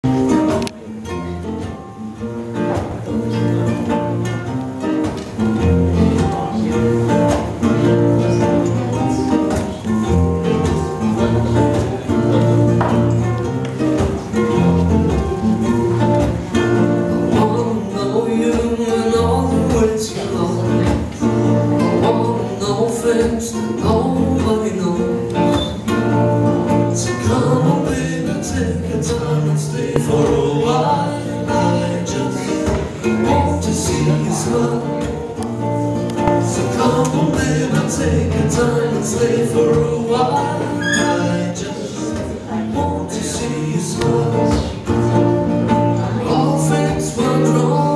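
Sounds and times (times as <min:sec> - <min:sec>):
acoustic guitars strumming: 0:00.0 - 0:47.9
ukulele strumming: 0:00.0 - 0:47.9.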